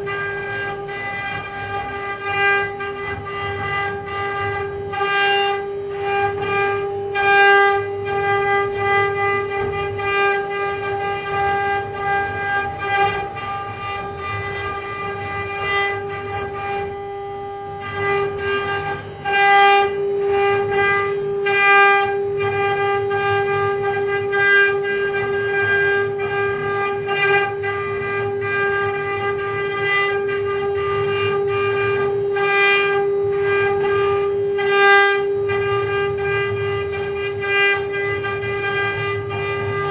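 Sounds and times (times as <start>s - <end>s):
spindle motor high whine: 0.0s - 39.9s.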